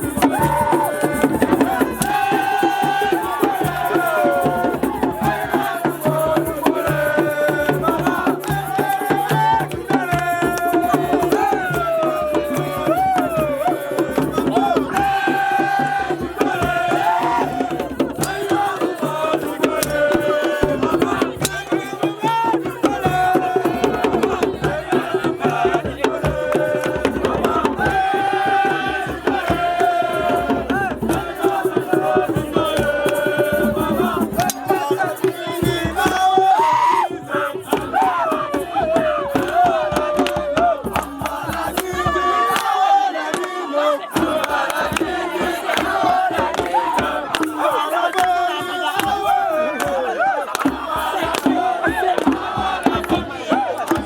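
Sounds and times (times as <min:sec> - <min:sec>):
fast drum and rattle percussion: 0:00.0 - 0:54.0
person singing: 0:00.0 - 0:54.0.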